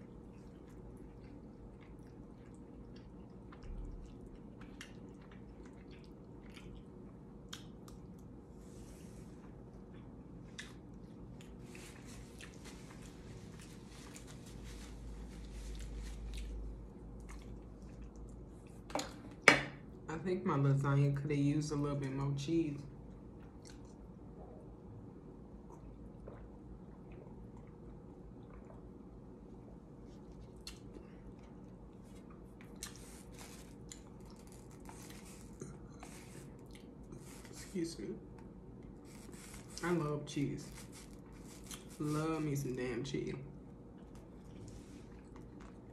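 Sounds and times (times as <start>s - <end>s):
person chewing food: 0.0s - 8.5s, 9.4s - 19.3s, 23.2s - 24.6s, 25.6s - 37.6s, 38.3s - 39.8s, 40.7s - 42.0s, 43.6s - 45.9s
low room hum: 0.0s - 45.9s.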